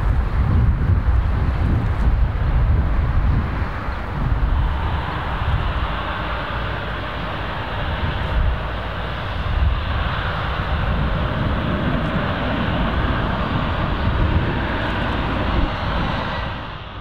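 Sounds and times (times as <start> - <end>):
jet engines running at low power: 0.0 - 17.0.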